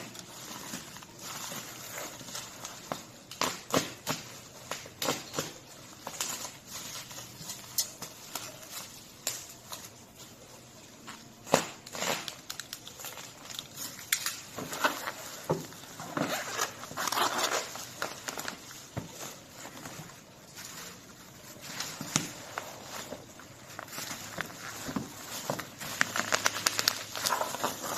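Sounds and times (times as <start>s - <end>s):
packaging crinkling and rustling: 0.0s - 27.9s.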